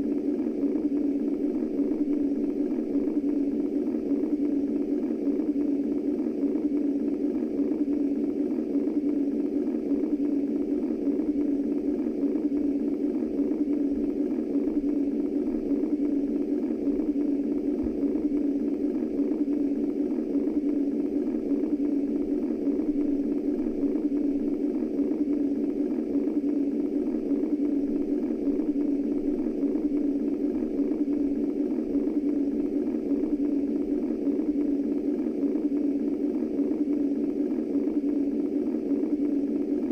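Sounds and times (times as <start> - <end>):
muffled white noise hum: 0.0 - 39.9.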